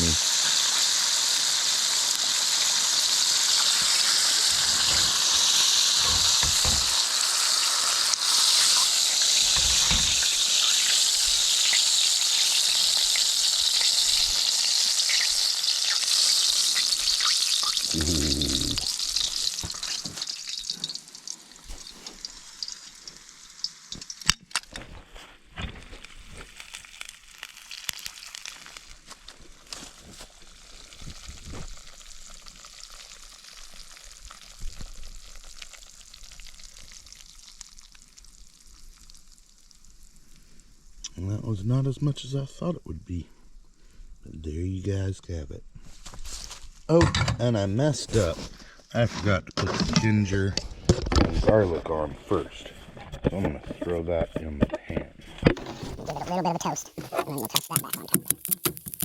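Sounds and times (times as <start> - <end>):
hot oil sizzling: 0.0 - 24.8, 25.9 - 44.9, 55.4 - 59.0.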